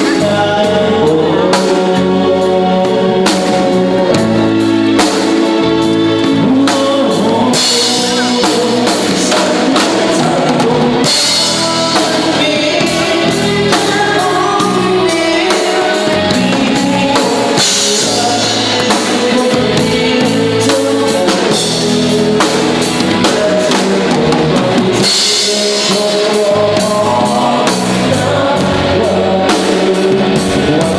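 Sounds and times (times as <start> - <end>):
band playing dance music: 0.0 - 30.9
drum kit beat: 0.0 - 30.9
person singing: 0.0 - 30.9.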